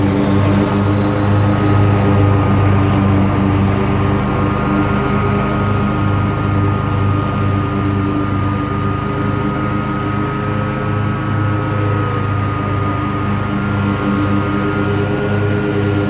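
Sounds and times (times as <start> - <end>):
high mower whine: 0.0 - 16.0
lawn mower engine drone: 0.0 - 16.0.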